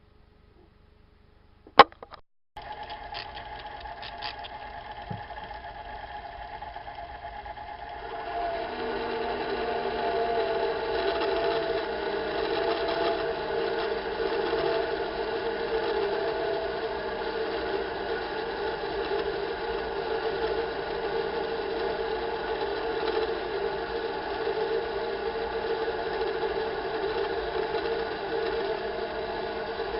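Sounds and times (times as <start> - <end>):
metal lathe running: 2.6 - 29.9.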